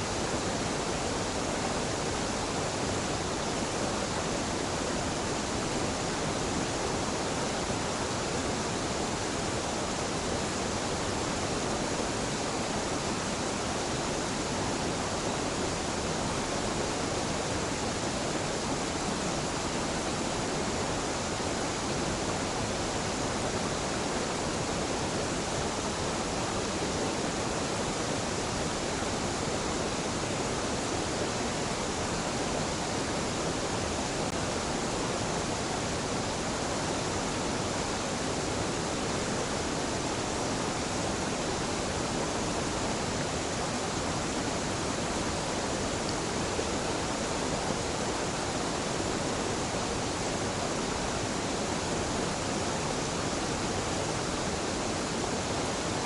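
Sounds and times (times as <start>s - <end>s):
waterfall rushing water: 0.0s - 56.0s.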